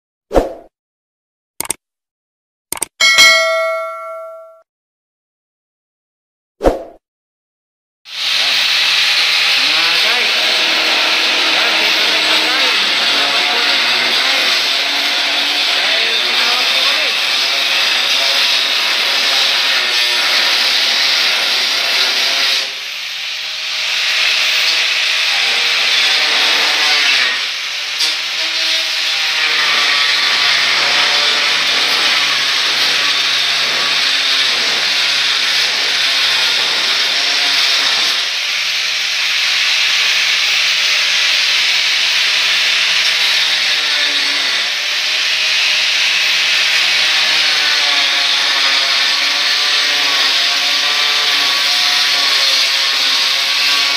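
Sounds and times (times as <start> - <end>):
angle grinder cutting tile: 8.1 - 53.9.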